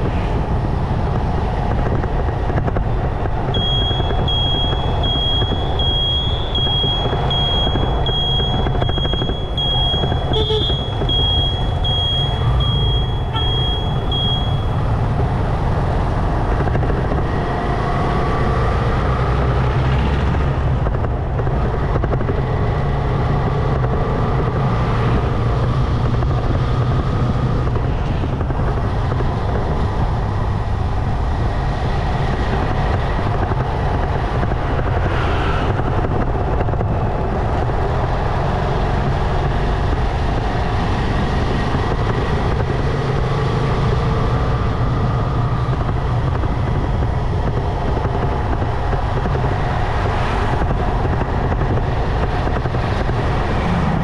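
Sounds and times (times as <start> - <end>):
faint traffic: 0.0 - 54.0
motorcycle engine rumble: 0.0 - 54.0.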